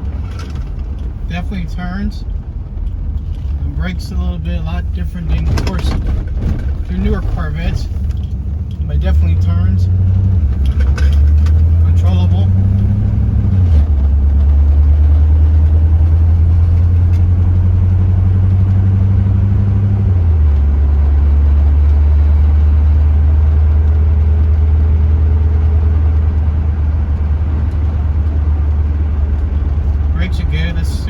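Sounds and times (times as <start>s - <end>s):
car engine cruising: 0.0s - 31.0s.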